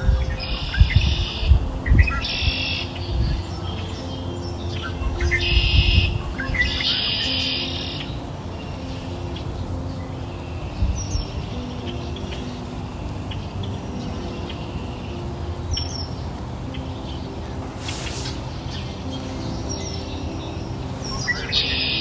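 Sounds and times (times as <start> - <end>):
birds chirping: 0.0 - 22.0
steady noisy hiss: 0.0 - 22.0.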